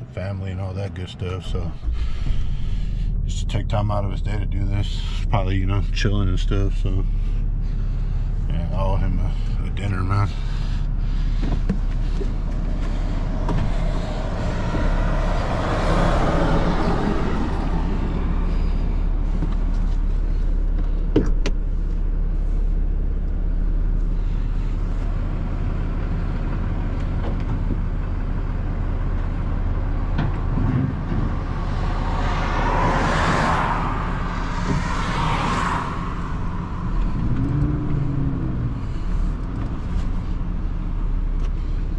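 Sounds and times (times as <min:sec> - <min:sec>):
truck engine humming: 0:00.0 - 0:41.9
vehicles passing on highway: 0:00.0 - 0:41.9.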